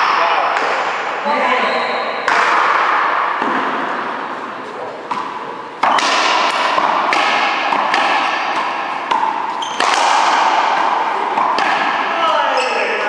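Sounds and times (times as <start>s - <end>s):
racquetball hitting racquet and wall: 0.0s - 1.2s, 2.0s - 13.0s.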